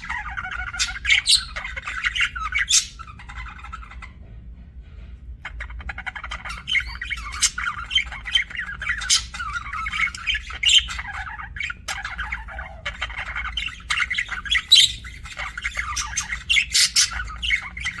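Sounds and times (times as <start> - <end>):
budgerigars chattering and chirping: 0.0 - 4.2, 5.4 - 18.0
low steady hum: 0.0 - 18.0.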